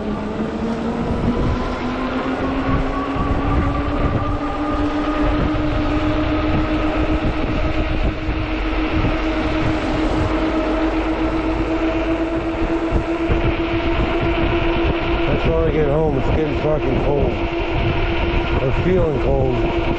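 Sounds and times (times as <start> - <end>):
electric motor whine: 0.0 - 19.9
wind and tyre rumble: 0.0 - 19.9.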